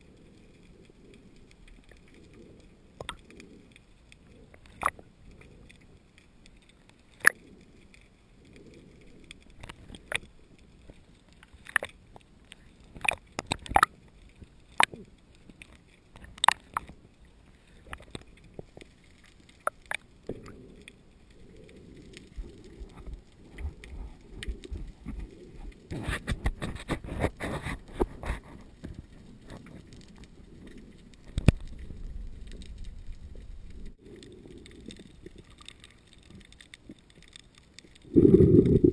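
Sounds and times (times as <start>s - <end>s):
dense crackling: 0.0s - 38.9s
sharp underwater clicks and knocks: 3.0s - 17.1s, 17.8s - 21.0s, 21.6s - 38.9s.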